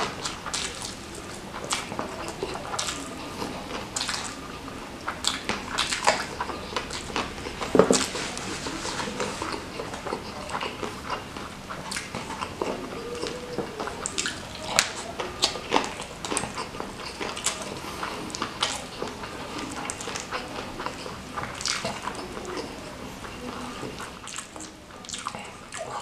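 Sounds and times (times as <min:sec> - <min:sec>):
wet chewing smacks and clicks: 0:00.0 - 0:26.0.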